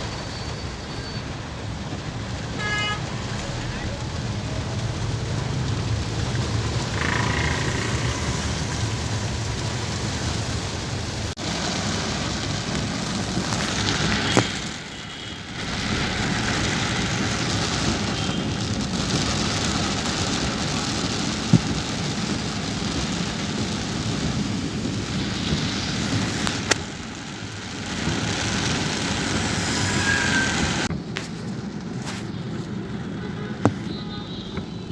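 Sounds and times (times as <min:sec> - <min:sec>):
rain on a moving car: 0:00.0 - 0:34.9
road noise: 0:00.0 - 0:34.9.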